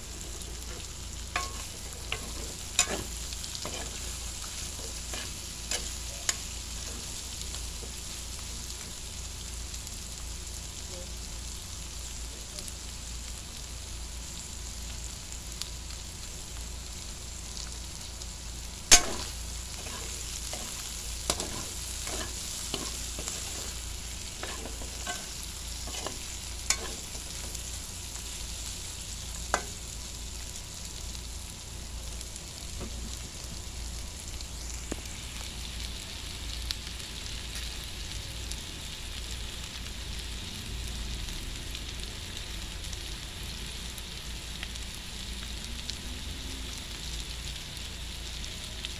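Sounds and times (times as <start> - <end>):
food sizzling in a pan: 0.0 - 48.9.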